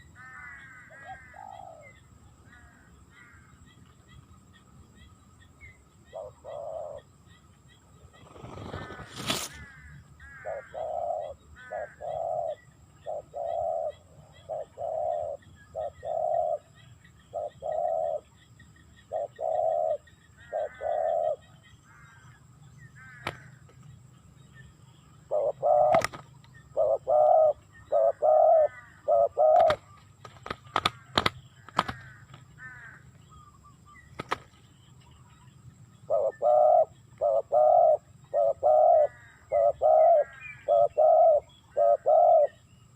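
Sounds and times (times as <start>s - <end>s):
doves cooing: 0.0s - 3.5s, 6.1s - 7.1s, 8.0s - 18.4s, 19.0s - 22.1s, 25.0s - 34.9s, 36.0s - 42.7s.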